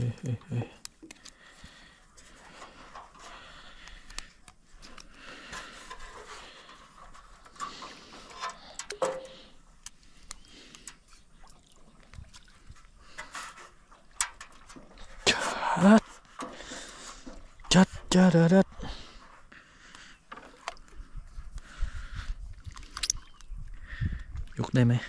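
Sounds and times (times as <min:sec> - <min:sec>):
water sounds and scraping: 0:00.8 - 0:24.8.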